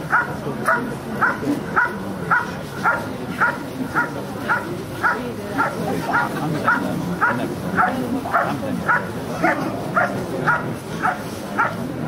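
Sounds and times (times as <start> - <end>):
dog barking: 0.1 - 11.8.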